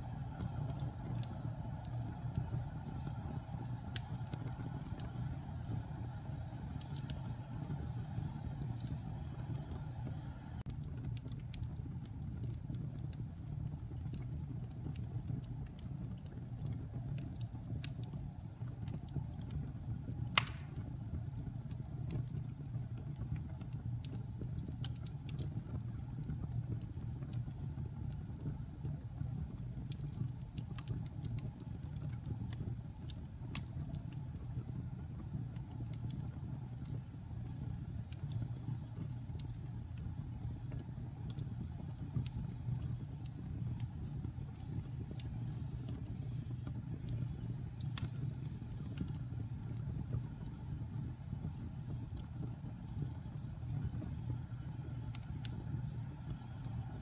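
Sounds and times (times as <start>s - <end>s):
fire crackling: 0.0s - 57.0s
fire rumbling: 0.0s - 57.0s
wood fire popping: 0.0s - 57.0s.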